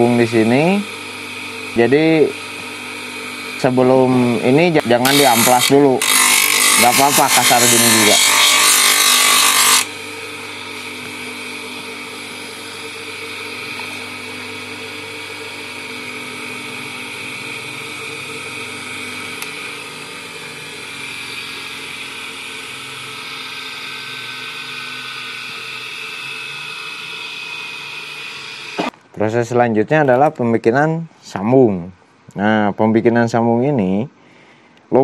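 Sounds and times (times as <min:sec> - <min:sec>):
sanding wheel motor hum: 0:00.0 - 0:28.9.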